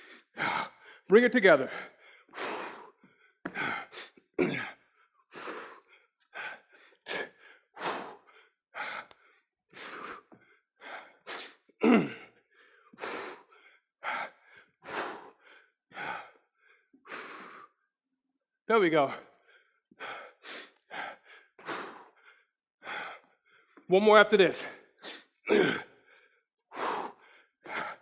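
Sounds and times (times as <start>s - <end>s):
man breathing hard: 0.0s - 17.9s, 19.1s - 23.9s, 24.6s - 28.0s.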